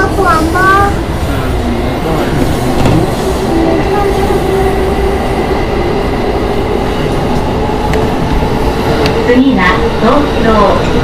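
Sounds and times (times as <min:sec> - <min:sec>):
steady train hum: 0:00.0 - 0:11.0
train wheels rumbling on track: 0:00.0 - 0:11.0.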